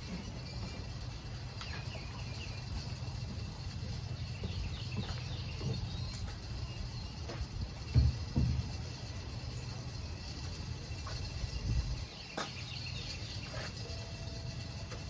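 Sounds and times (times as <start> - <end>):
birds chirping: 0.0 - 14.8
steady low rumble: 0.0 - 15.0.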